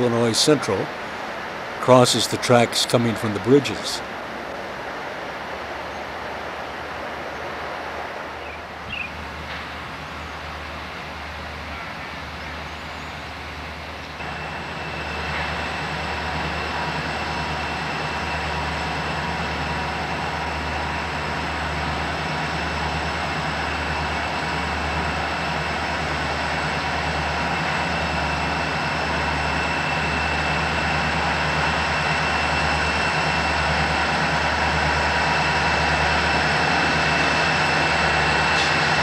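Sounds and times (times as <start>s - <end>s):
diesel locomotive engine rumble: 0.0s - 39.0s
train track noise: 0.0s - 39.0s.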